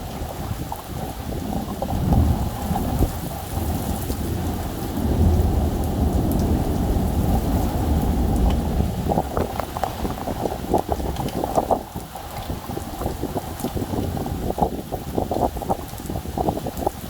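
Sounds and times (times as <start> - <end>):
rain and wind: 0.0 - 17.0
raindrops pattering on a surface: 0.0 - 17.0
rumble of thunder: 1.0 - 17.0.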